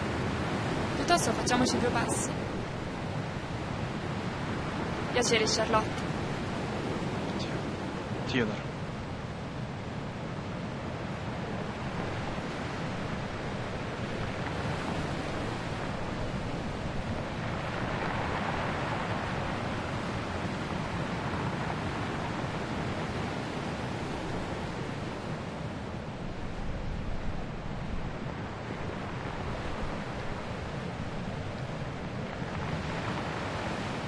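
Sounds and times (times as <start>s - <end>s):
surf breaking against rocks: 0.0s - 34.0s
wind: 0.0s - 34.0s.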